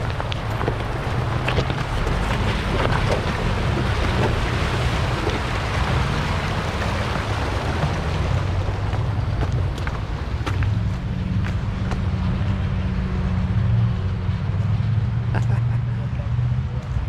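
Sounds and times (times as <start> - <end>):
vehicle engine running: 0.0 - 17.0
wind: 0.0 - 17.0.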